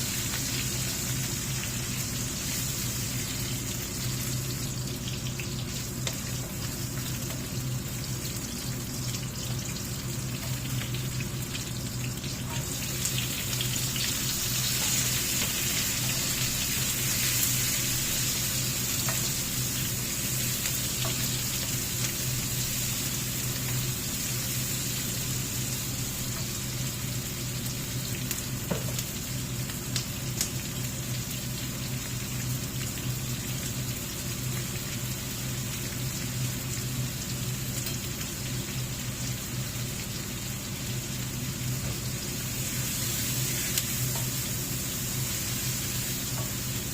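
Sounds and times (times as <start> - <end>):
food hissing and crackling: 0.0 - 46.9.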